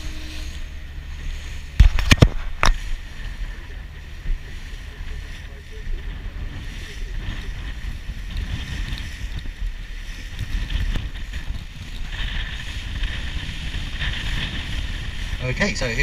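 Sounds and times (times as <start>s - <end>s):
speedboat engine: 0.0s - 16.0s
wind buffeting microphone: 0.0s - 16.0s.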